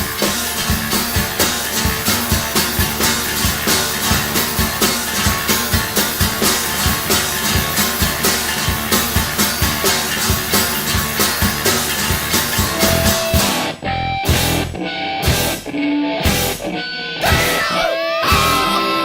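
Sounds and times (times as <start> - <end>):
drums driving beat: 0.0 - 19.0
heavy rock band playing: 0.0 - 19.0.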